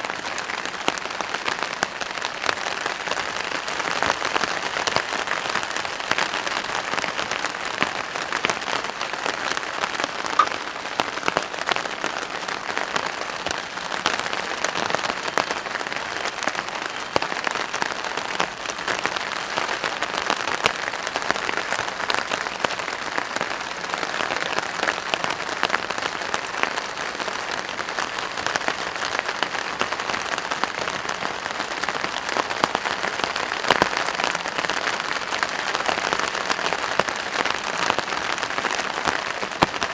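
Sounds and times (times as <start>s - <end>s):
rain drumming on plastic tarp: 0.0s - 39.9s.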